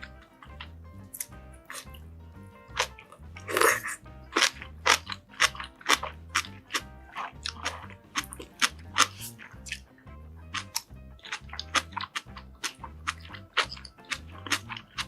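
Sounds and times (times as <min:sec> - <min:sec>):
background music beat: 0:00.0 - 0:15.0
crunching and chewing food: 0:00.0 - 0:15.0.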